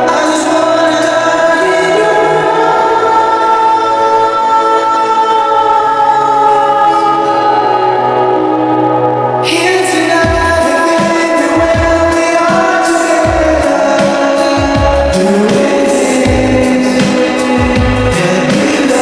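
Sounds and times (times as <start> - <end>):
slow choral singing: 0.0 - 9.4, 11.0 - 19.0.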